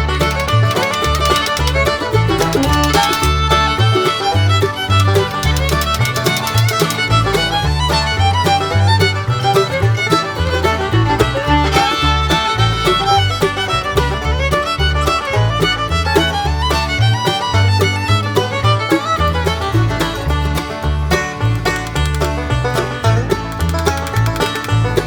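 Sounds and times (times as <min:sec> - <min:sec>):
fiddle-led country tune: 0:00.0 - 0:25.0.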